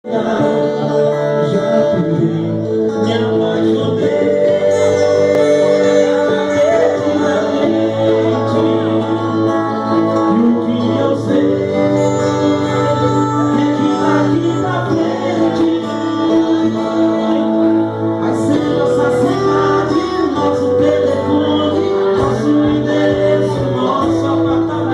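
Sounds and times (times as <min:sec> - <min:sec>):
person singing: 0:00.0 - 0:24.9
pop song with band: 0:00.0 - 0:24.9.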